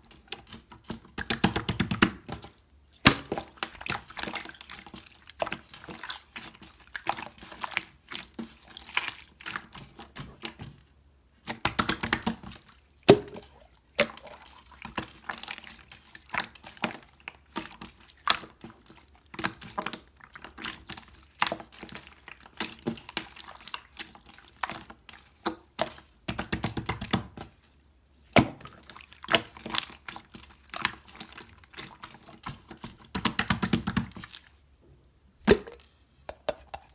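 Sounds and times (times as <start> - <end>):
hands squishing slime: 0.0 - 10.8, 11.4 - 34.6, 35.4 - 36.9.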